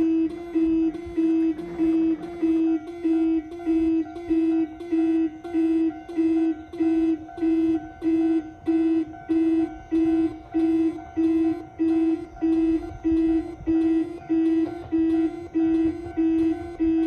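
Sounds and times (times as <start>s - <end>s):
level crossing warning buzzer: 0.0s - 17.0s.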